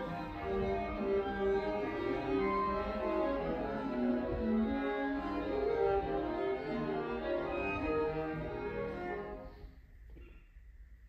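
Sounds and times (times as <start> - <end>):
orchestra bowed strings: 0.0 - 9.8.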